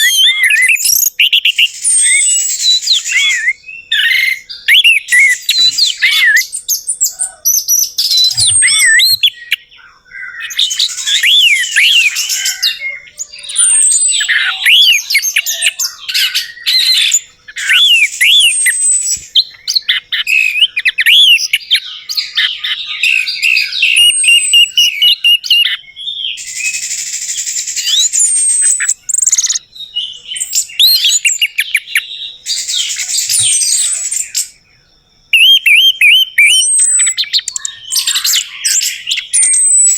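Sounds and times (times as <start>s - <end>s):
thrush singing whistles: 0.0s - 39.9s.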